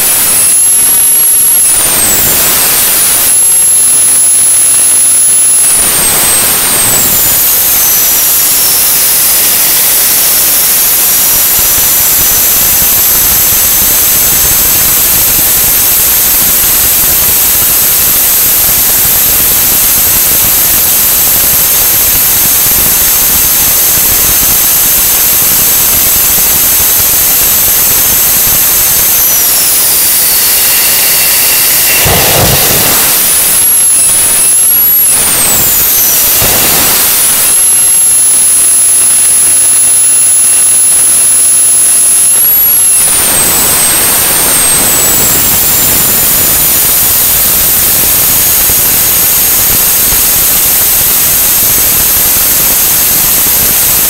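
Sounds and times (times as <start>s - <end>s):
high turbine whine: 0.0s - 54.0s
jet engine exhaust roar: 0.0s - 54.0s.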